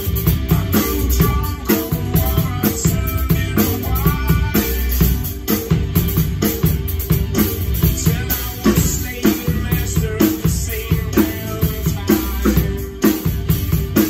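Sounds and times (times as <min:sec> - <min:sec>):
drum kit playing: 0:00.0 - 0:14.0
rock backing track: 0:00.0 - 0:14.0.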